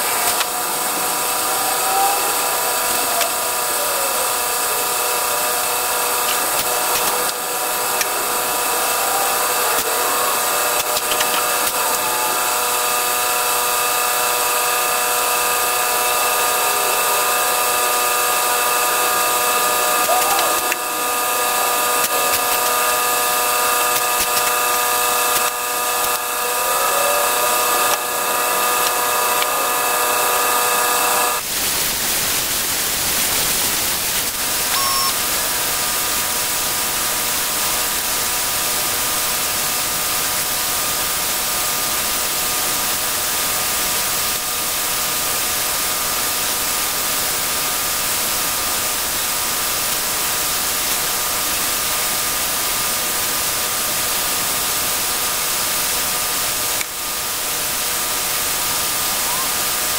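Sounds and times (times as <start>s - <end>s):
shop tool running with hiss and whine: 0.0s - 59.9s.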